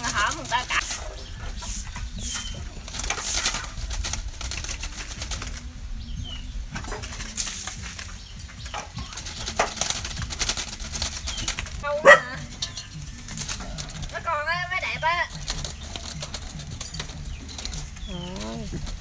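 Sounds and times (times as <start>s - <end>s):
birds fluttering in a cage: 0.0s - 19.0s.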